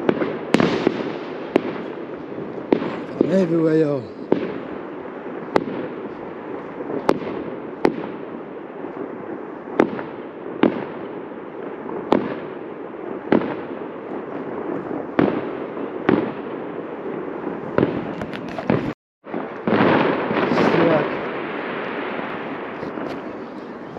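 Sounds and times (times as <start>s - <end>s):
distant fireworks bangs: 0.0s - 23.9s.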